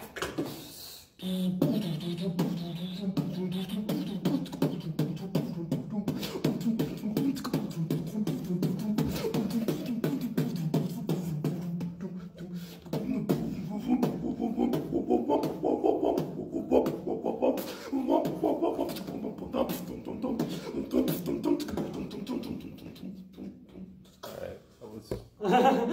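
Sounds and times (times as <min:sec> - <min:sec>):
beatboxing clicks and snares: 0:00.0 - 0:24.6
high-pitched vocal sounds: 0:00.0 - 0:24.7.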